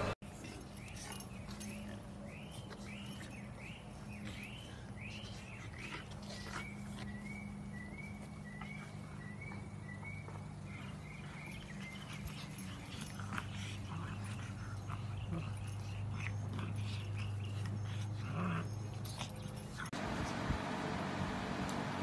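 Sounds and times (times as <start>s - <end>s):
dogs playing: 0.0s - 20.5s.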